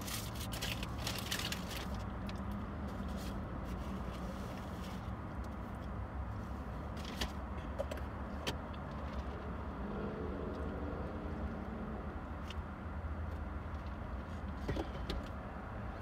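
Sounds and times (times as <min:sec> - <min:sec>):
car engine rumbling from inside: 0:00.0 - 0:16.0.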